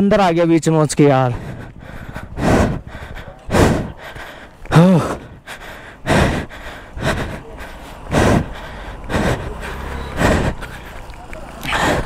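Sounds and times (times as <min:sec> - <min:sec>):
person breathing hard and gasping: 0:01.3 - 0:12.0.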